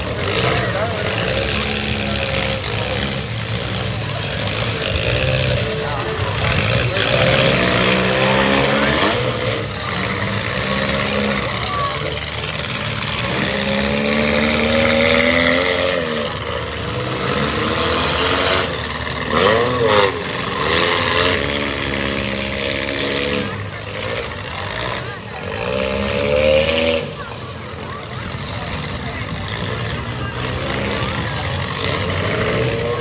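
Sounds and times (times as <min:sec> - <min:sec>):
car engines revving: 0:00.0 - 0:33.0
crowd din: 0:00.0 - 0:33.0.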